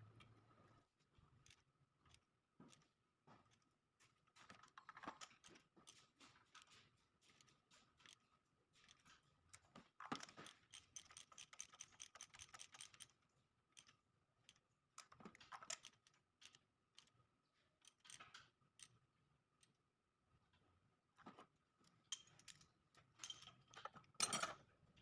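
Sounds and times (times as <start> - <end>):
handling clicks and scraping: 1.4 - 13.2, 13.8 - 19.0, 21.2 - 24.7.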